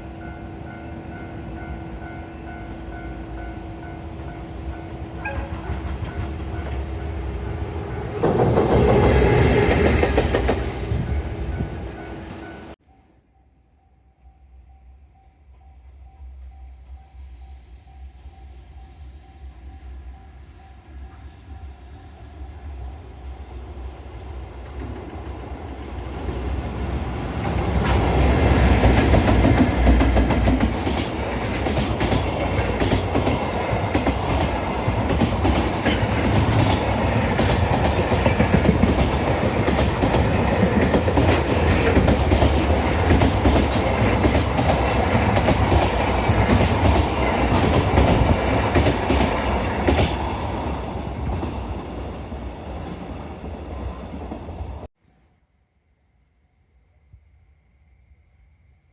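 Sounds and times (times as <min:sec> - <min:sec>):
freight train rumbling past: 0:00.0 - 0:12.8, 0:18.5 - 0:54.9.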